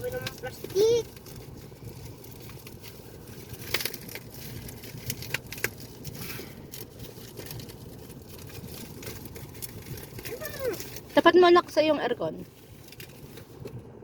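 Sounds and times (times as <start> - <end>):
sharp clicks and crackles: 0.0 - 11.4, 12.4 - 13.8
plastic packaging crinkling: 0.0 - 13.9
steady low hum: 0.0 - 14.0.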